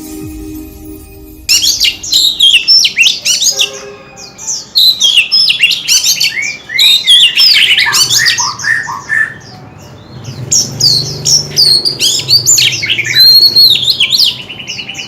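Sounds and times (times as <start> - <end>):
bird singing whistles and chirps: 1.5 - 15.0.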